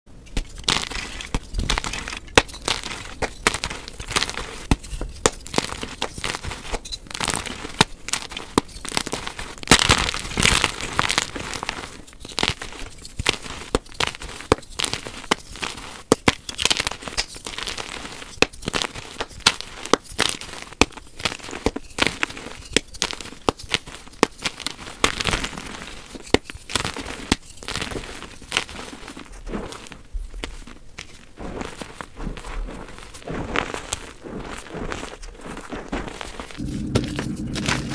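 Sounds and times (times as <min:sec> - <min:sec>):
chalk crunching by hand: 0:00.4 - 0:37.9.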